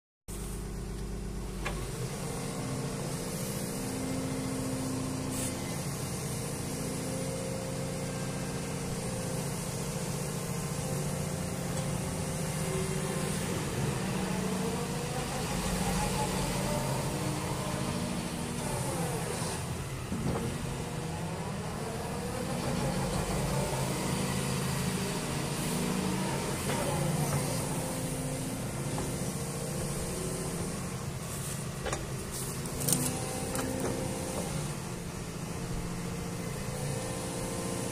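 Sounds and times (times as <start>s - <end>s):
excavator diesel engine running: 0.3s - 37.9s
hydraulic whine: 0.4s - 37.9s.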